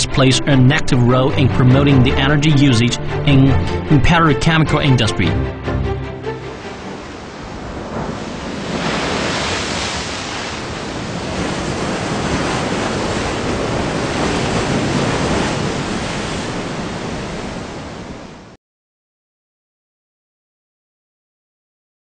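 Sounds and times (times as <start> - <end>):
ocean waves breaking: 0.8 - 18.6.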